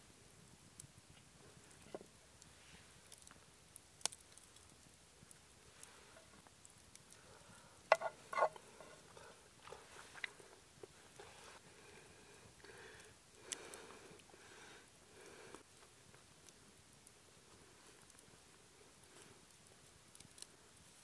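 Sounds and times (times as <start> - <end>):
campfire crackling and popping: 0.1 - 21.0.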